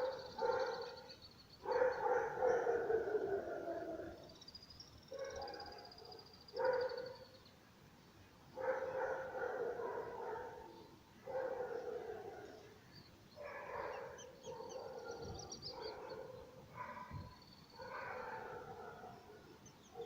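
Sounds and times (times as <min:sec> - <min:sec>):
small birds chirping: 0:00.0 - 0:07.7, 0:08.6 - 0:20.0.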